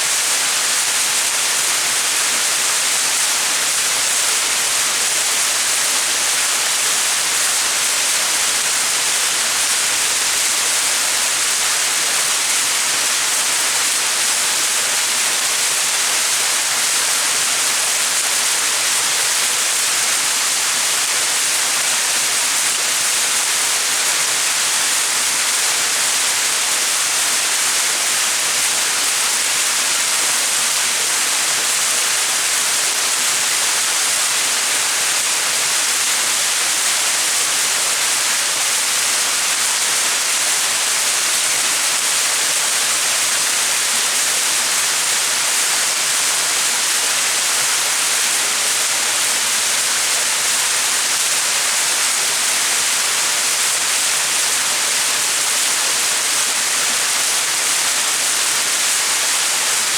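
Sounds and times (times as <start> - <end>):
waterfall splashing: 0.1 - 59.9.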